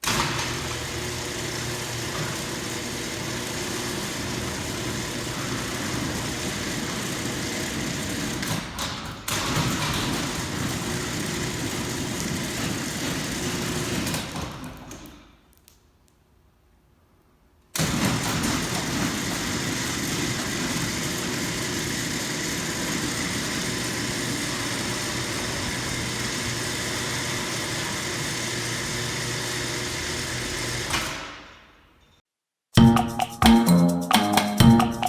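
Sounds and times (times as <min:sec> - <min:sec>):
garage door opener motor hum: 0:00.0 - 0:15.3, 0:17.8 - 0:31.7
garage door rumbling: 0:00.0 - 0:15.4, 0:17.8 - 0:31.7.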